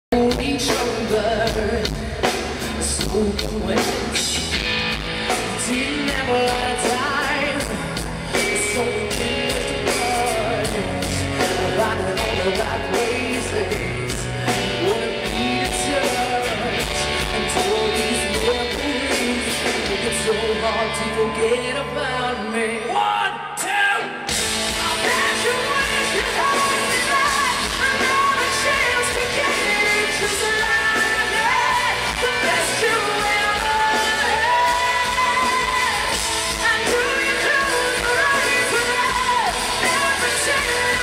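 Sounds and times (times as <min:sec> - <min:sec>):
distorted electric guitars: 0:00.1 - 0:41.0
drum kit beat: 0:00.2 - 0:20.3, 0:24.3 - 0:41.0.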